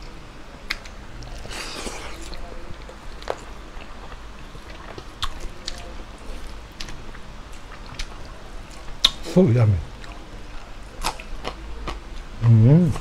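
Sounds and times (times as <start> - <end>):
person chewing food: 0.6 - 9.3, 10.0 - 13.0.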